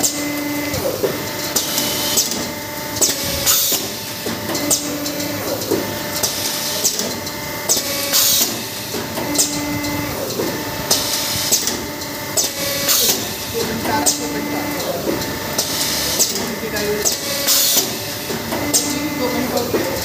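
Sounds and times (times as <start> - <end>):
machine mechanical hum: 0.0 - 20.0
sharp machine clicks: 1.4 - 20.0.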